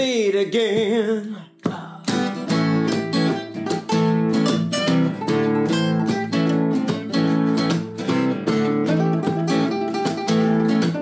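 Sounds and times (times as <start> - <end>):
classical guitars strumming chords: 1.9 - 11.0.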